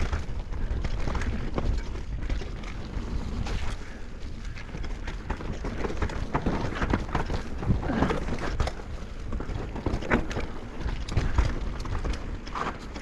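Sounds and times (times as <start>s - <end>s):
bike knocking and rattling: 0.0s - 13.0s
bike tyre rumble: 0.0s - 13.0s.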